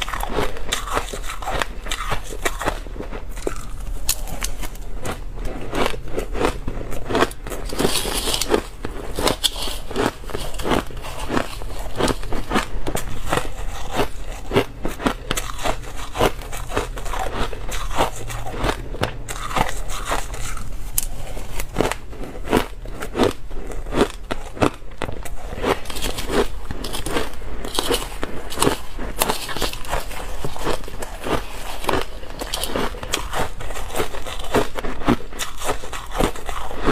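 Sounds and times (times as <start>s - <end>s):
crushed ice being chewed: 0.0s - 36.9s.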